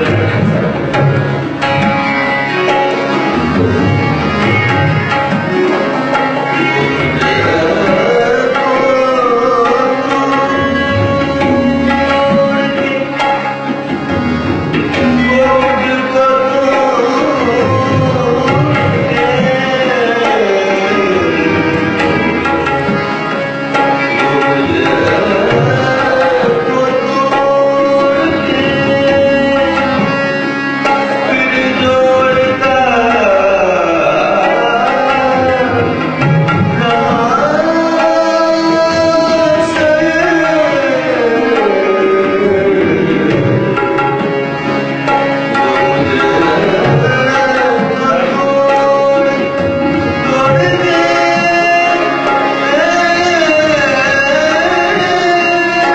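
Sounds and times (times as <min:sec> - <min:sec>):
sliding melody: 0:00.0 - 0:55.9.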